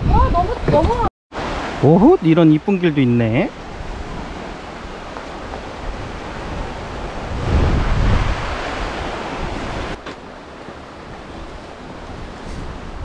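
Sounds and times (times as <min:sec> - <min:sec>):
wind buffeting microphone: 0:00.0 - 0:01.1, 0:03.5 - 0:13.0
sea waves washing on shore: 0:00.4 - 0:13.0.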